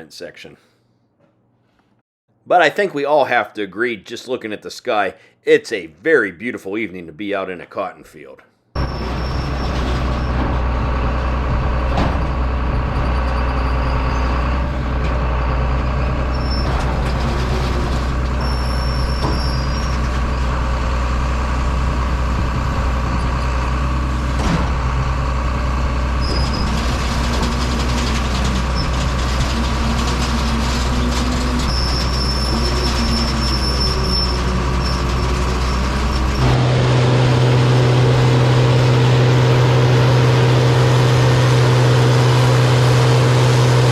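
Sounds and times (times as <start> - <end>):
harvester machine drone: 8.8 - 43.9.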